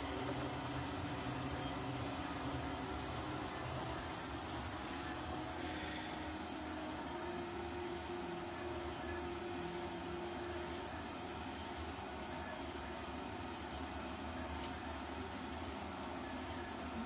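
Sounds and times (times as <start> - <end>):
printer motors and fans whirring: 0.0 - 17.0
steady motor tone: 0.0 - 17.0.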